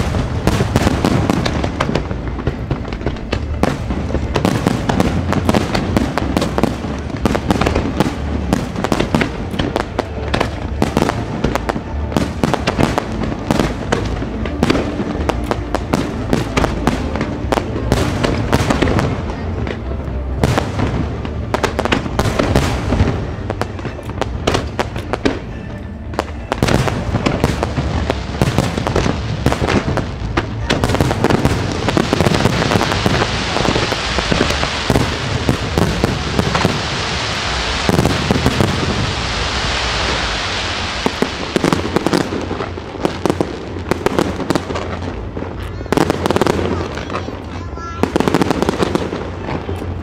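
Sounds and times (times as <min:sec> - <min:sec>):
crackling firework hiss: 0:00.0 - 0:50.0
fireworks bangs and pops: 0:00.0 - 0:50.0.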